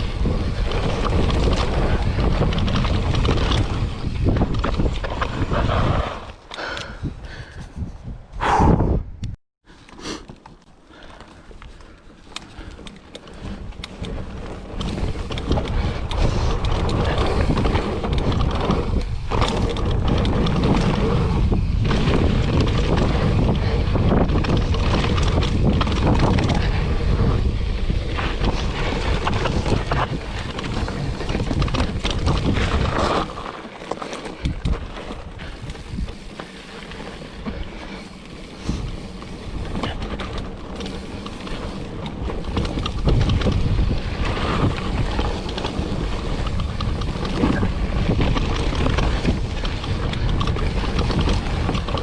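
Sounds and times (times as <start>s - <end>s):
bike clicks and rattles: 0.0s - 8.1s, 9.2s - 52.0s
wind noise on microphone: 0.0s - 9.4s, 12.6s - 52.0s
bike tyre rumble: 0.0s - 52.0s.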